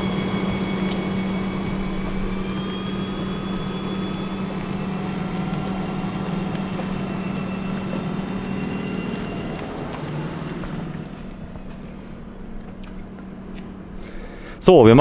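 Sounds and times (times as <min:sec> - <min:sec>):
electric hum with held tones: 0:00.0 - 0:15.0.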